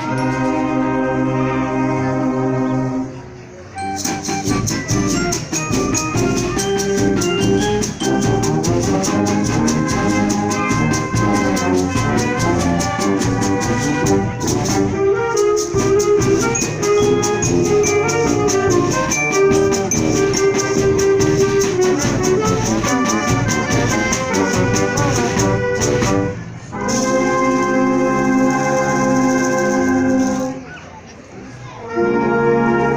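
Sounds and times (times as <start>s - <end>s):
wind band playing: 0.0s - 32.9s.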